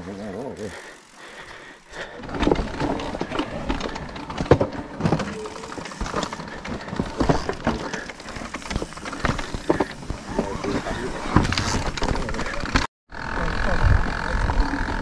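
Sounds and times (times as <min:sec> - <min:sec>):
bike rattling over rocks: 0:00.1 - 0:12.9.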